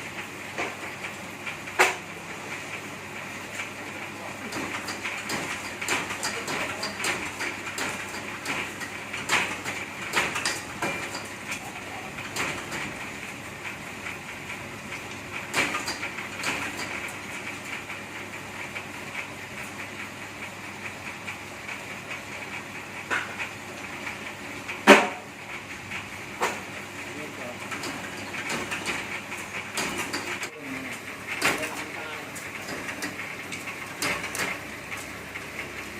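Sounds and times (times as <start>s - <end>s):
machine knocks and clacks: 0.0s - 35.9s.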